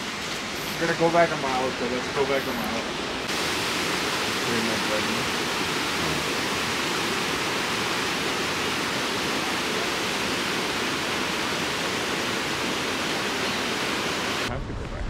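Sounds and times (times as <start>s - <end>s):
river water rushing: 0.0s - 14.5s.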